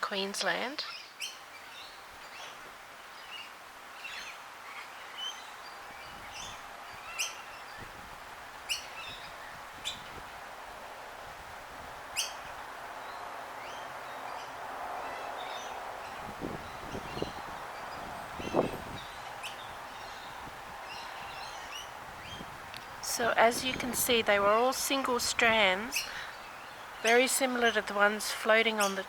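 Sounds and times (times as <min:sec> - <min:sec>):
birds chirping: 0:00.0 - 0:29.0
outdoor background hiss: 0:00.0 - 0:29.0.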